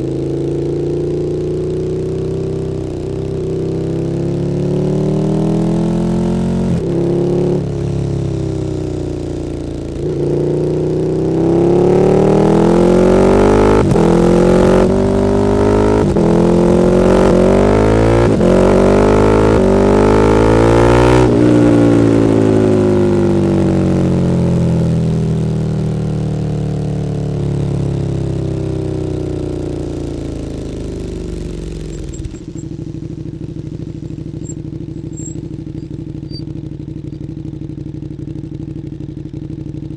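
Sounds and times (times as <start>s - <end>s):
motorcycle engine revving: 0.0s - 25.5s, 27.5s - 39.9s.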